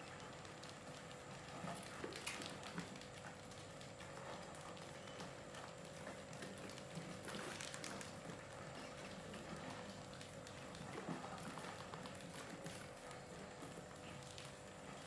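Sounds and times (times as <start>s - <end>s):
mice scratching and tapping: 1.6s - 14.5s.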